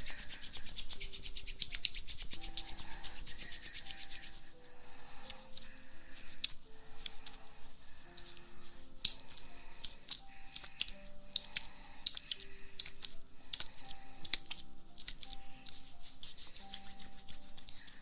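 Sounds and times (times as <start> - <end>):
rubbing on ear with crackling clicks: 0.0 - 4.4, 5.2 - 7.4, 8.1 - 18.0
soft background music: 0.0 - 18.0.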